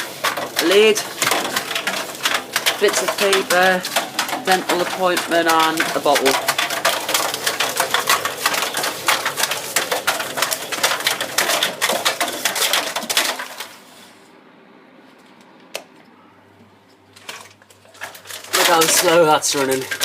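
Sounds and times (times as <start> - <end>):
objects rattling in dryer drum: 0.0 - 14.0, 17.1 - 20.0.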